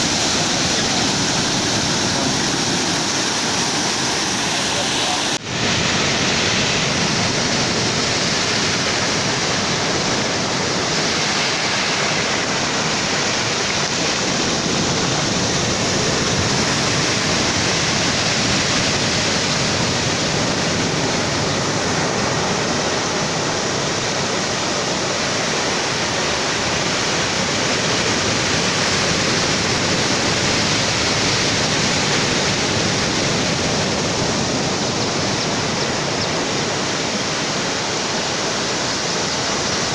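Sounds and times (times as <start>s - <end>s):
ocean surf rushing: 0.0s - 39.9s.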